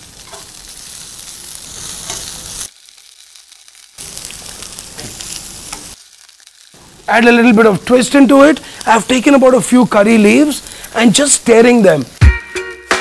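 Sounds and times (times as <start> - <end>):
vegetables sizzling in oil: 0.0 - 12.6.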